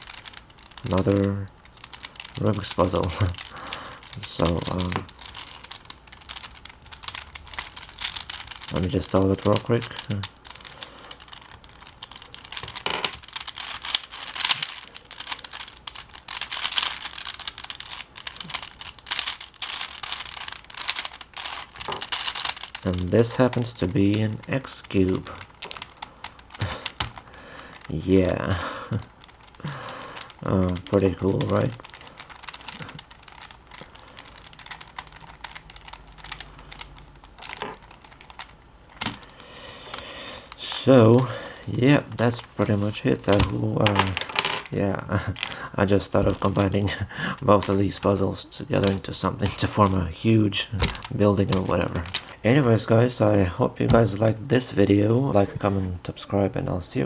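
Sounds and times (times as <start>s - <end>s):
plastic puzzle clicking and clacking: 0.0s - 55.8s.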